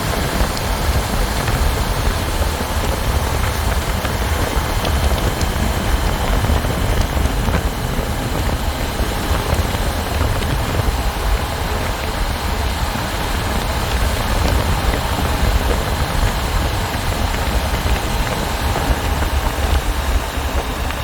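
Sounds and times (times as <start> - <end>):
motorcycle engine drone: 0.0 - 21.0
wind rushing over microphone: 0.0 - 21.0.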